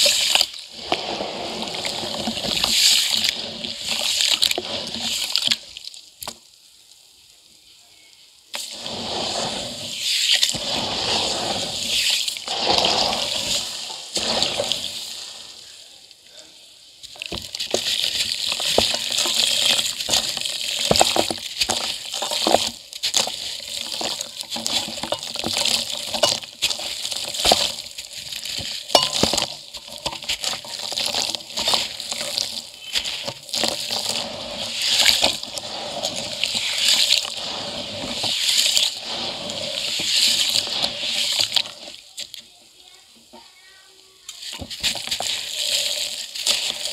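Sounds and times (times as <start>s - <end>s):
water sloshing in bucket: 0.0s - 6.0s, 8.6s - 15.6s, 17.0s - 42.4s, 44.3s - 46.9s
hands crumbling cement in water: 0.0s - 6.4s, 10.2s - 15.5s, 17.0s - 42.4s, 44.3s - 46.9s.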